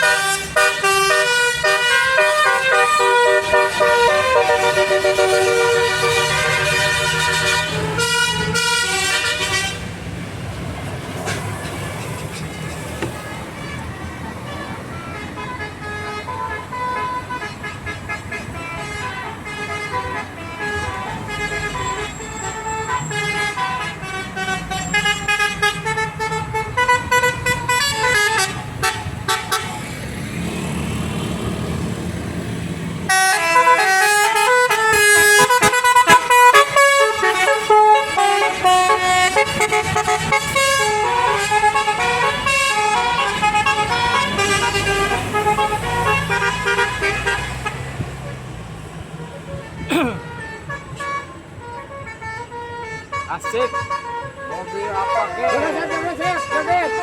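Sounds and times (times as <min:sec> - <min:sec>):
bus air horns playing a tune: 0:00.0 - 0:10.2, 0:11.1 - 0:29.9, 0:33.1 - 0:57.0.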